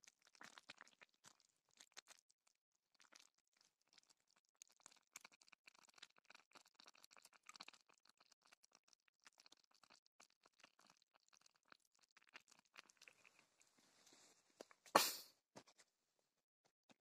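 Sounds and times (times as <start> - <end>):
stew simmering with faint crackling: 0.0 - 14.9.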